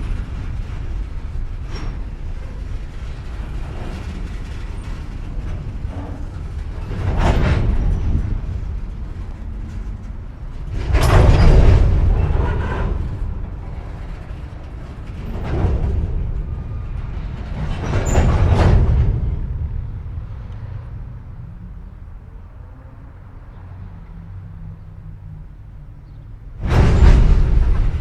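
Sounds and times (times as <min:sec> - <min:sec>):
train couplers banging: 0:00.0 - 0:22.2, 0:23.5 - 0:28.0
steady low rumble: 0:00.0 - 0:22.6, 0:25.2 - 0:28.0.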